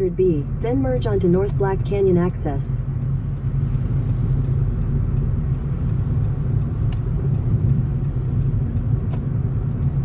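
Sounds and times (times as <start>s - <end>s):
car cabin road and engine rumble: 0.0s - 10.0s.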